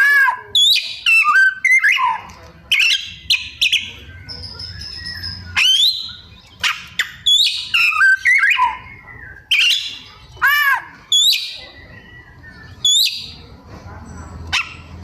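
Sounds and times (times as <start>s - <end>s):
songbird singing varied phrases: 0.0s - 13.4s.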